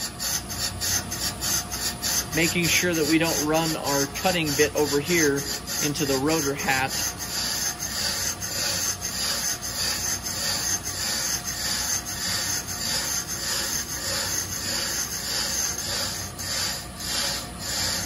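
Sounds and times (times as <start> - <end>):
cutting bits rasping on rotor: 0.0 - 18.0
lathe humming: 0.0 - 18.0.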